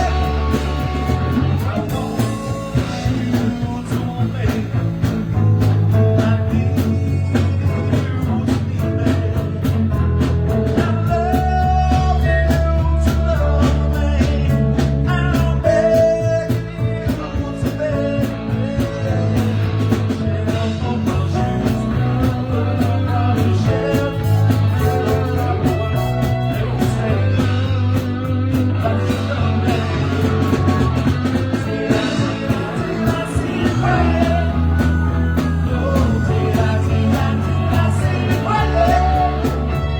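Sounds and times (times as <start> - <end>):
live rock band: 0.0 - 39.9
steady drum beat: 0.0 - 39.9.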